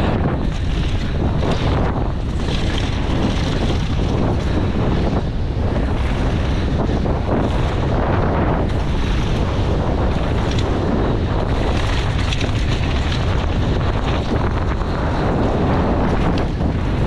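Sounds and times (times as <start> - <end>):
bike clicks and rattles: 0.0 - 17.0
tyres on loose gravel: 0.0 - 17.0
wind buffeting microphone: 0.0 - 17.0.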